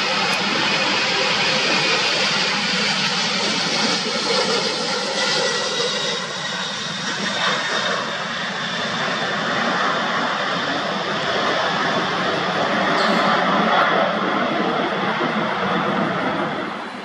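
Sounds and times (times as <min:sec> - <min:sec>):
jet engines roaring at takeoff: 0:00.0 - 0:17.0.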